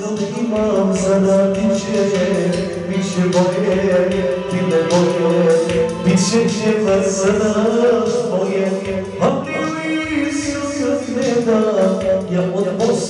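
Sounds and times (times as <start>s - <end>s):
electronic keyboard folk-pop tune: 0.0s - 13.0s
man singing into a microphone: 0.0s - 13.0s
steady drum beat: 0.0s - 13.0s.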